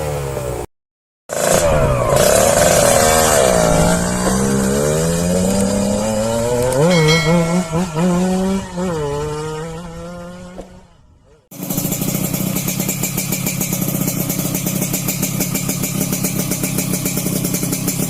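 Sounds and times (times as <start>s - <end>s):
two-stroke motorcycle engine revving: 1.3s - 18.0s.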